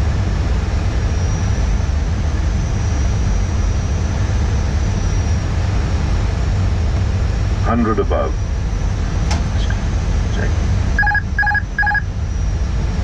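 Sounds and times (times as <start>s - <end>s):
airflow and engine rumble: 0.0s - 13.0s
faint high whine: 0.0s - 13.0s.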